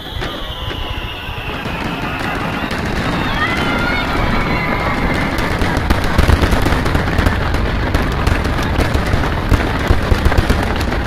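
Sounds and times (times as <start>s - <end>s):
fireworks booms and crackles: 0.0s - 11.0s.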